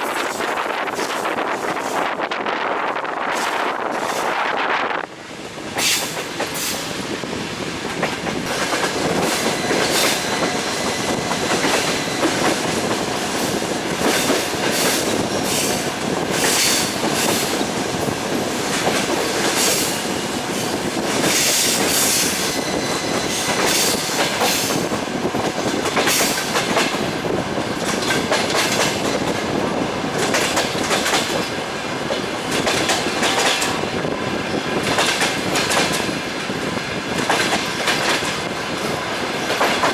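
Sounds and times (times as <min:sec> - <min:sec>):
train wheels clacking on rail joints: 0:00.0 - 0:04.7, 0:05.5 - 0:39.9
rumble of rolling train: 0:00.0 - 0:39.9.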